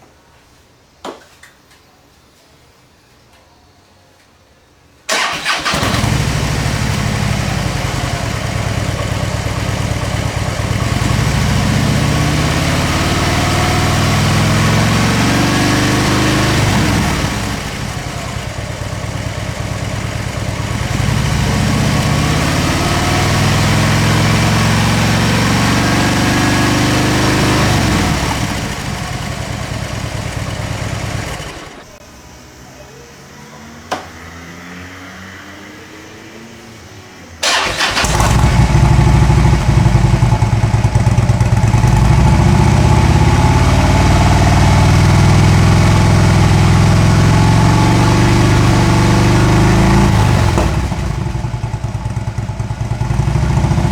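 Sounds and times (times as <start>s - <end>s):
motorcycle engine revving: 5.1s - 32.0s, 37.4s - 53.9s
motorcycle engine starting and idling: 5.1s - 32.0s, 37.4s - 53.9s.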